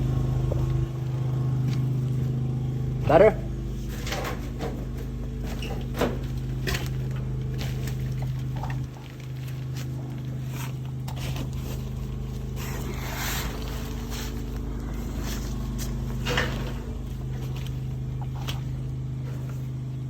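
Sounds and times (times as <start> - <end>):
engine and pump running: 0.0 - 20.0.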